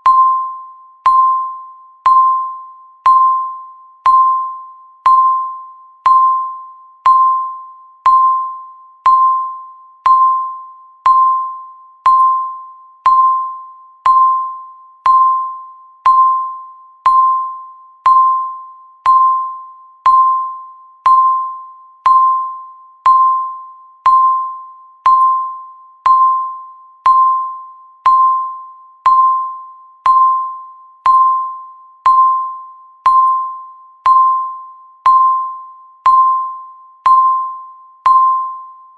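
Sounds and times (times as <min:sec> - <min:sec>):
timer beeps: 0:00.0 - 0:38.9.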